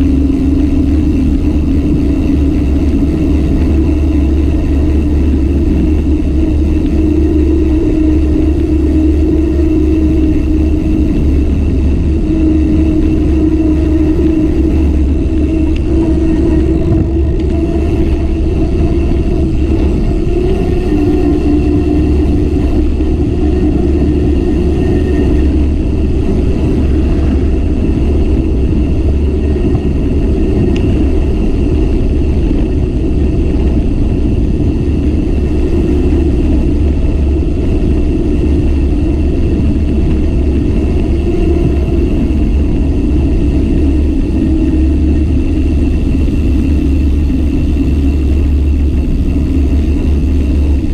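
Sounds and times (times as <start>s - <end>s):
low wavering hum: 0.0s - 50.9s
wind rush and road noise: 0.0s - 50.9s.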